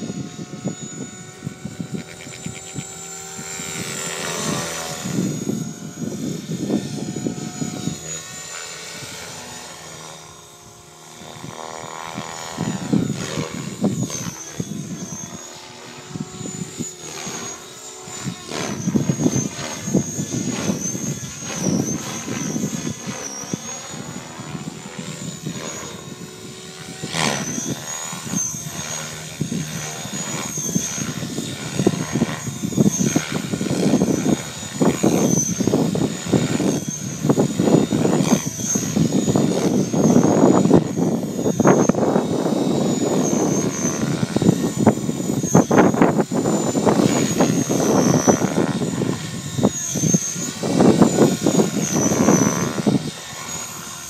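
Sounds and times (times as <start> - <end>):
helicopter rotor blades chopping: 0.0 - 54.0
high motor whine: 0.0 - 54.0.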